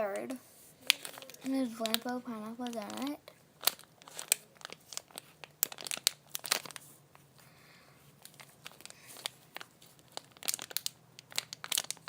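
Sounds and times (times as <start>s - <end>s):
foam toy crinkling and crackling: 0.0s - 12.0s.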